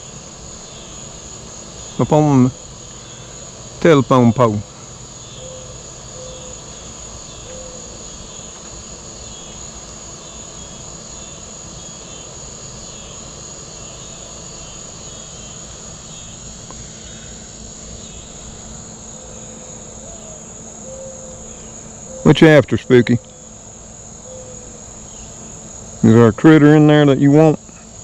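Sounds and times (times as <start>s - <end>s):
insects chirping: 0.0s - 28.0s
light rain hiss: 0.0s - 28.0s.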